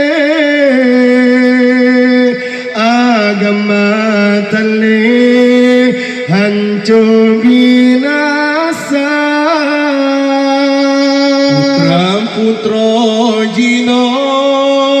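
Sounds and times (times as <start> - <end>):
solo voice chanting: 0.0 - 15.0.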